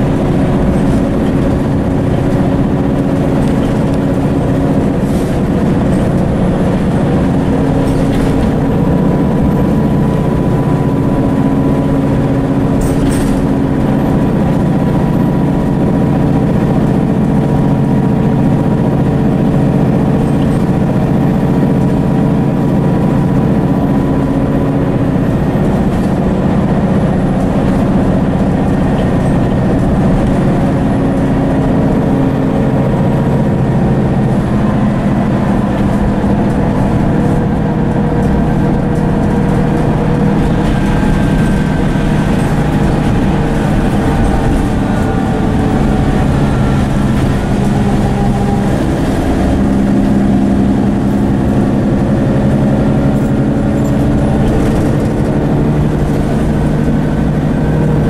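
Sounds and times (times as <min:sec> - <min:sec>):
bus diesel engine running: 0:00.0 - 0:58.0
road and tyre noise: 0:00.0 - 0:58.0.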